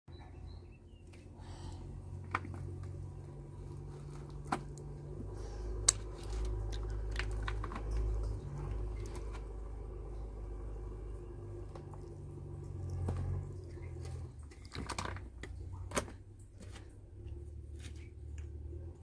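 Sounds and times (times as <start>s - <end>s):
low hum: 0.1s - 19.0s.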